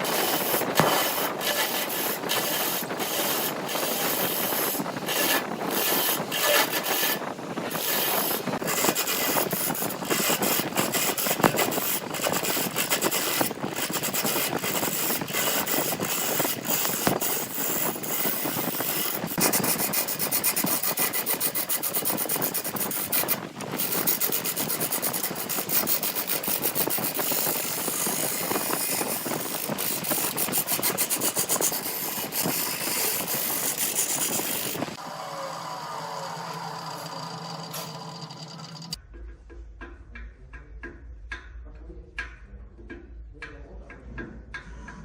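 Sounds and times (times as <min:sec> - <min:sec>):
wood rasping and scraping: 0:00.0 - 0:35.2, 0:35.8 - 0:39.0.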